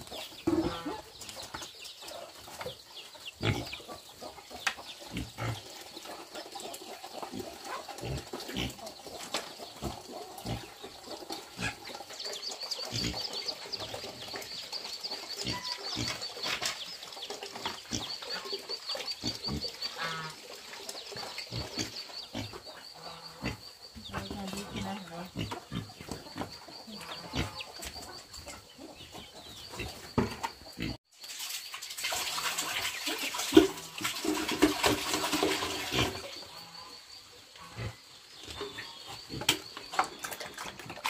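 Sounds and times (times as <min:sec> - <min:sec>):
chickens clucking: 0:00.0 - 0:31.0, 0:32.4 - 0:41.0.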